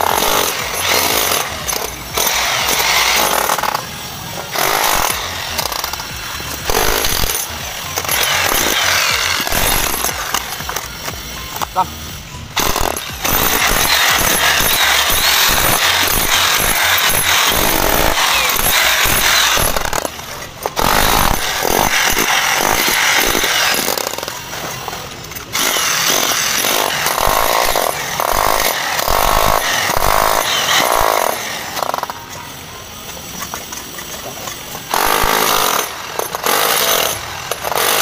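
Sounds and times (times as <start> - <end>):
demolition hammer chiselling concrete: 0.0 - 10.9, 12.6 - 32.2, 33.5 - 38.0.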